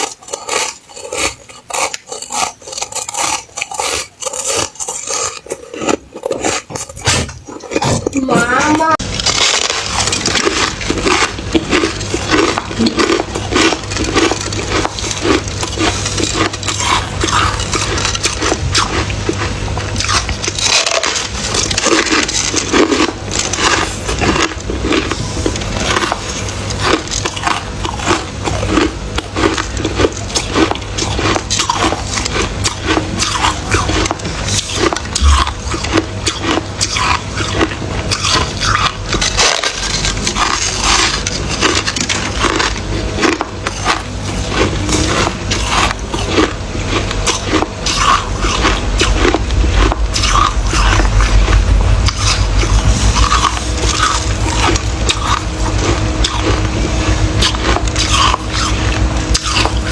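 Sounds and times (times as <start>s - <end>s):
crunching frost being chewed: 0.0s - 59.9s
steady low hum: 0.0s - 59.9s.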